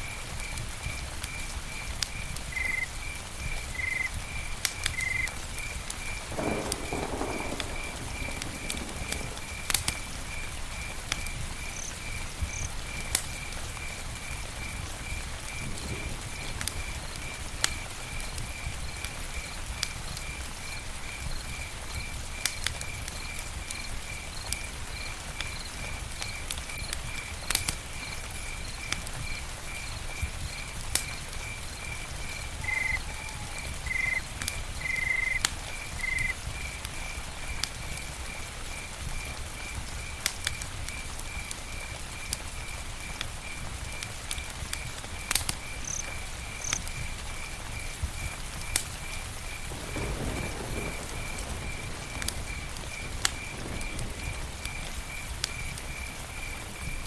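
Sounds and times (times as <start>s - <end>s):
insect chirping: 0.0s - 44.1s, 44.7s - 57.0s
campfire crackling: 0.0s - 57.0s.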